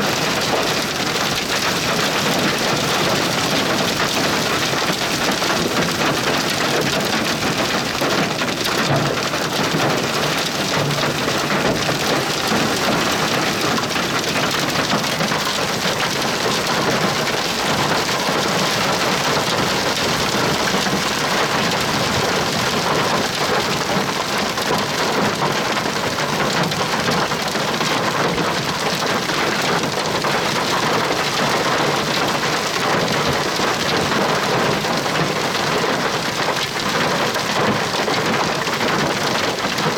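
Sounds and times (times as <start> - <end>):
heavy rain pelting a vehicle: 0.0 - 39.9.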